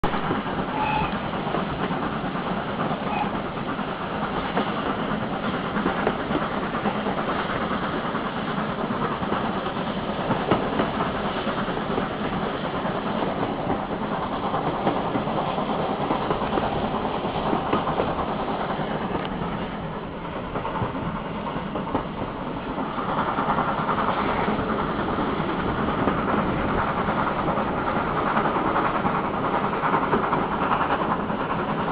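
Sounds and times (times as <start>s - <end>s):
steam locomotive steam and exhaust: 0.0s - 31.9s.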